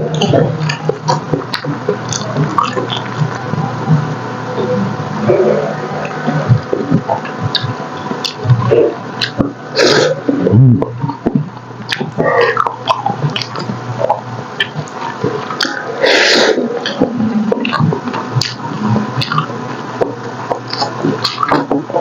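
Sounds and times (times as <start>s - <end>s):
loud noisy bursts: 0.0s - 22.0s
mouth clicks: 0.0s - 22.0s
wet chewing and smacking: 0.1s - 4.3s, 5.2s - 15.9s, 16.7s - 22.0s.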